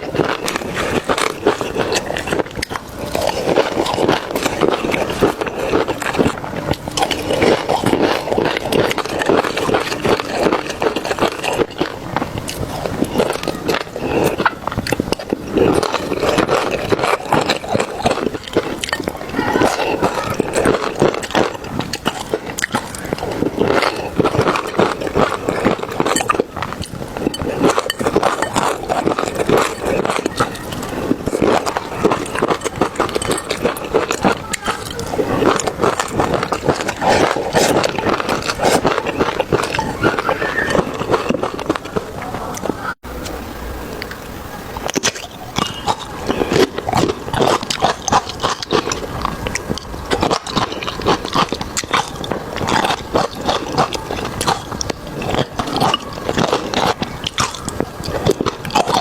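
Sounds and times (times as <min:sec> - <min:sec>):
person chewing with wet smacks: 0:00.0 - 0:59.0.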